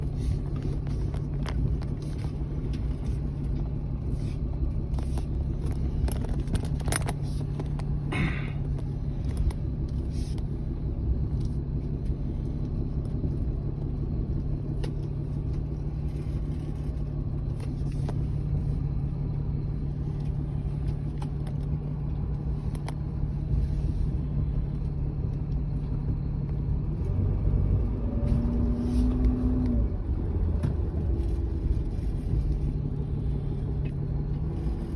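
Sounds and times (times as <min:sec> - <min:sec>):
motor vehicle running: 0:00.0 - 0:34.9.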